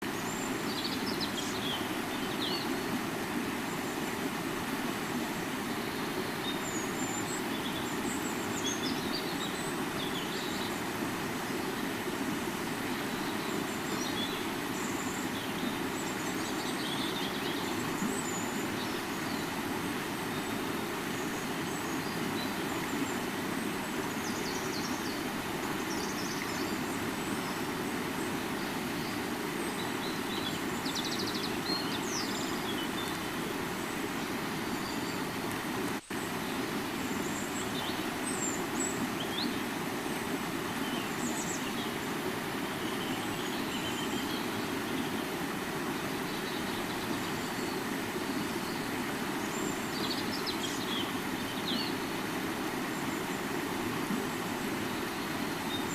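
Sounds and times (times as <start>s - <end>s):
river flowing: 0.0s - 55.9s.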